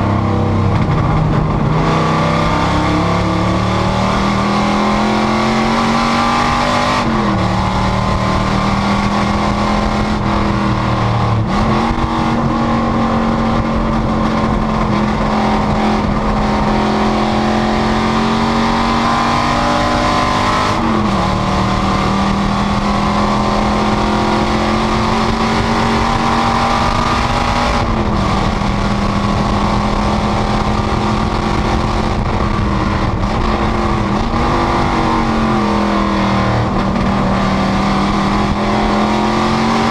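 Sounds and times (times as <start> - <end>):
race car engine running hard: 0.0 - 39.9
road and wind noise: 0.0 - 39.9.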